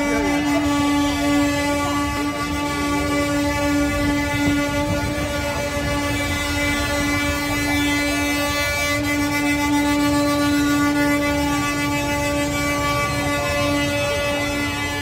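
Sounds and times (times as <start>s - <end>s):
garbage truck rumble: 0.0s - 15.0s
truck horn steady tone: 0.0s - 15.0s.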